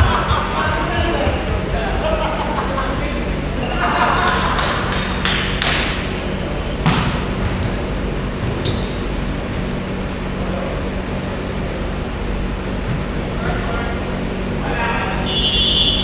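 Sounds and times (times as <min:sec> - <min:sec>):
basketball bouncing: 0:00.0 - 0:10.8, 0:11.5 - 0:14.6
low background din: 0:00.0 - 0:16.0
sneakers squeaking on floor: 0:00.0 - 0:16.0.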